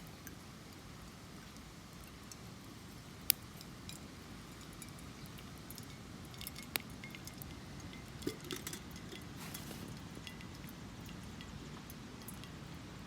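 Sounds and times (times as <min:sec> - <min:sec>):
small wood fire crackling: 0:00.0 - 0:13.0.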